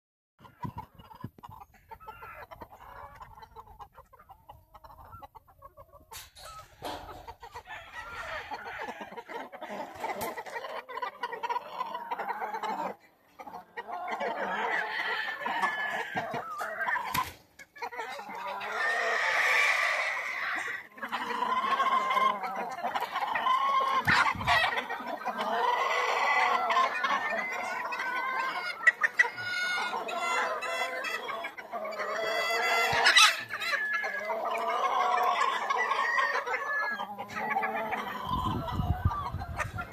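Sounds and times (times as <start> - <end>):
chickens clucking and calling: 0.4 - 39.9.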